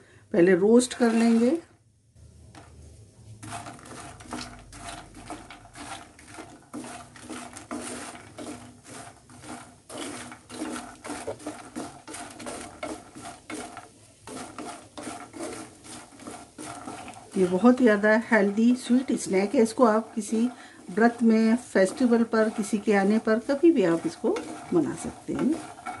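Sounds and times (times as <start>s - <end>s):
puffed nuts rattling in a pan: 0.5s - 1.7s, 2.5s - 26.0s.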